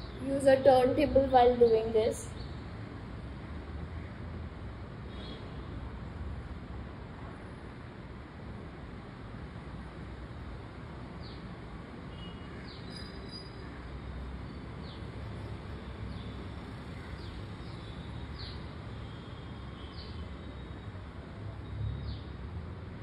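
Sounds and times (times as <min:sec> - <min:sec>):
steady background noise: 0:00.0 - 0:23.0.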